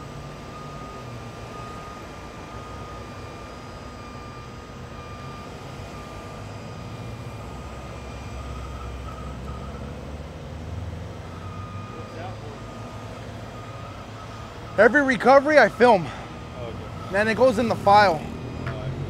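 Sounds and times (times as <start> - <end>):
diesel truck engine rumble: 0.0 - 19.0
steady high whine: 0.0 - 19.0.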